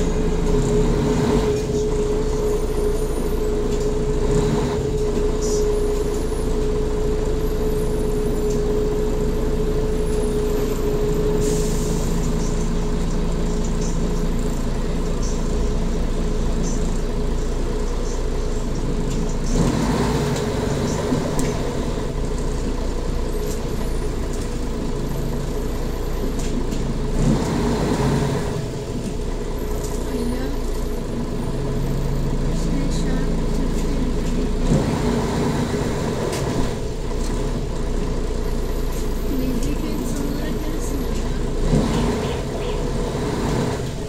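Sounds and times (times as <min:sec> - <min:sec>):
bus engine and road noise: 0:00.0 - 0:44.0
engine whine: 0:00.0 - 0:44.0.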